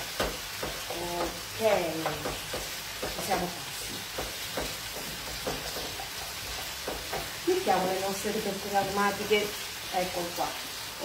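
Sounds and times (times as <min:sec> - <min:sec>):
tomatoes sizzling in a frying pan: 0:00.0 - 0:11.0
wooden spoon scraping a pan: 0:00.1 - 0:09.6.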